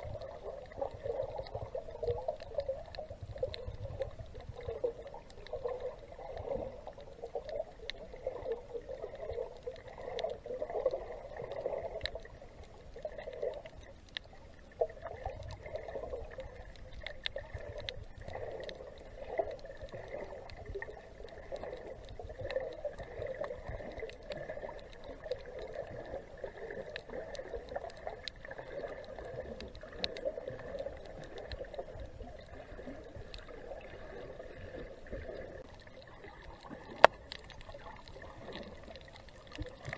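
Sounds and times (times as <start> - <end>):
water sloshing and gurgling underwater: 0.0 - 39.9
small scattered clicks: 1.3 - 11.0, 12.0 - 33.6, 34.7 - 39.9.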